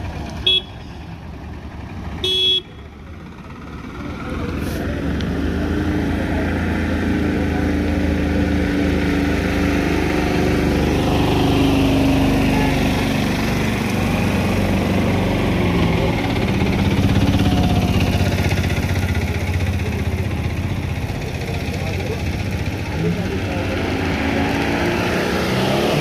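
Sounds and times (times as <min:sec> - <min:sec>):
auto-rickshaw engines revving: 0:00.0 - 0:26.0
suv engine in mud: 0:00.0 - 0:26.0.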